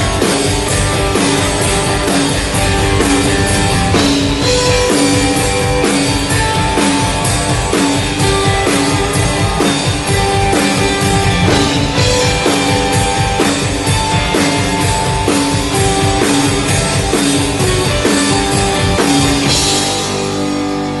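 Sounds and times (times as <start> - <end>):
drum kit beat: 0.0 - 21.0
electric guitars: 0.0 - 21.0.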